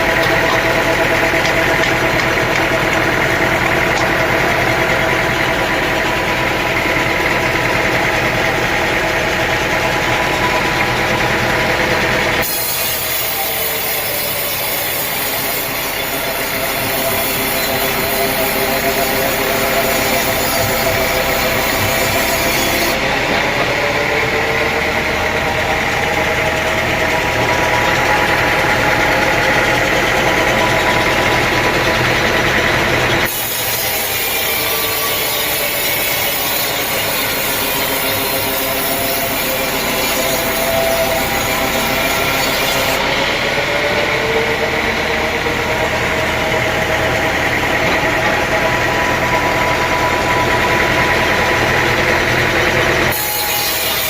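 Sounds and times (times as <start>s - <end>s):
mill motor running: 0.0s - 54.0s
saw cutting through log: 0.0s - 54.0s.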